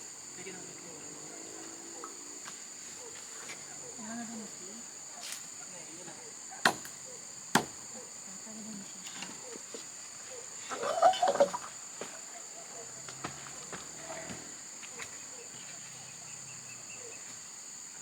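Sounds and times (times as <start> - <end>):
insect chorus chirring: 0.0 - 18.0.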